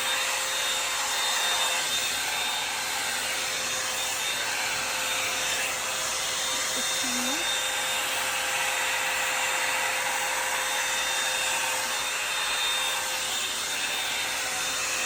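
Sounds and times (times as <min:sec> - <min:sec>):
hot-air brush blowing air: 0:00.0 - 0:15.0
motor whine: 0:00.1 - 0:15.0.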